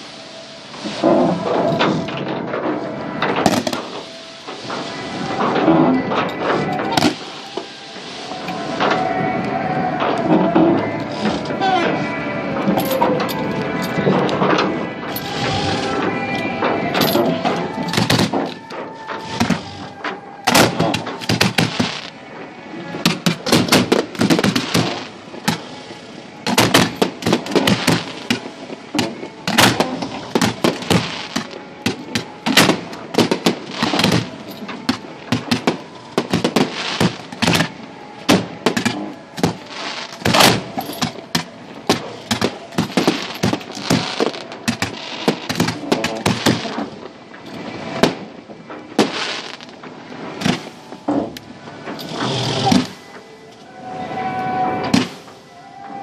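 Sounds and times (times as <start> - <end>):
fireworks bangs: 0.0 - 53.4, 54.7 - 56.0.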